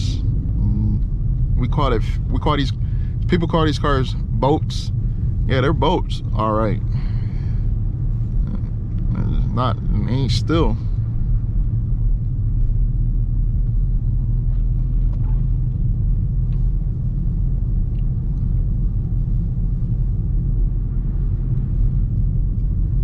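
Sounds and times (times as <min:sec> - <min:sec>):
car engine rumbling: 0:00.0 - 0:23.0
road noise: 0:00.0 - 0:23.0.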